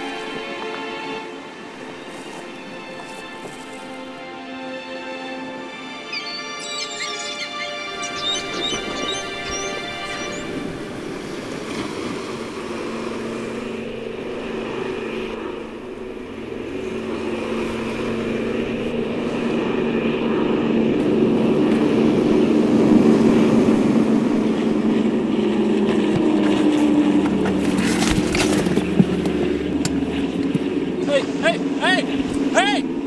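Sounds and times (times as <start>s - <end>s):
propeller airplane engines droning: 0.0s - 33.0s.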